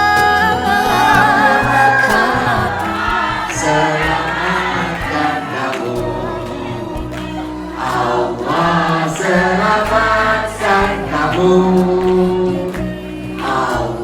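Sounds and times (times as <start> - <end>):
low accompanying notes: 0.0 - 13.7
choir singing: 0.0 - 14.0.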